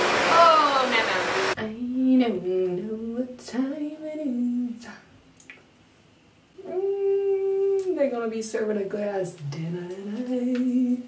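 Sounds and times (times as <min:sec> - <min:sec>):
woman singing: 0:00.3 - 0:05.1, 0:06.6 - 0:11.0.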